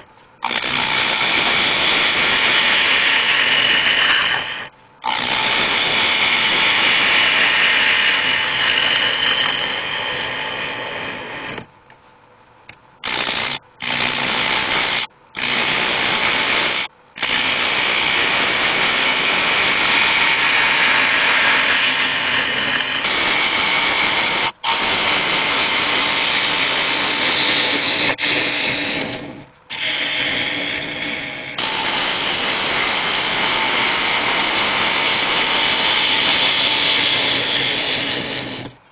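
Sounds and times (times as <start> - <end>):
lathe gouge hissing into wood: 0.0 - 11.7, 13.1 - 38.8.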